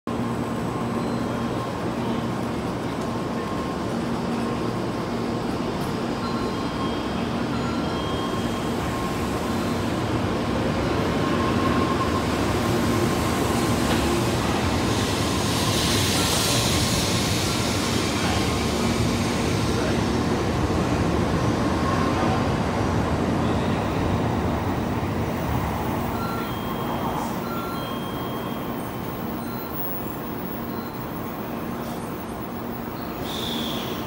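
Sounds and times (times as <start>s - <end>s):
train rumbling past: 0.1s - 34.0s.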